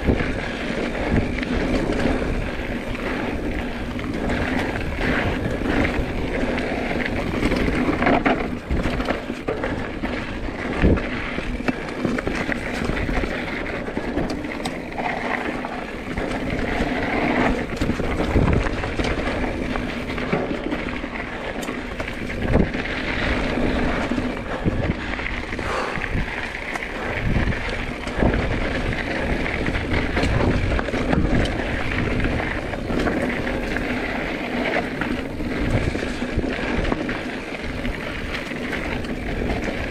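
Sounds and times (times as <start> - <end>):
bike knocking and rattling: 0.0 - 39.9
bike tyre and drivetrain noise: 0.0 - 39.9.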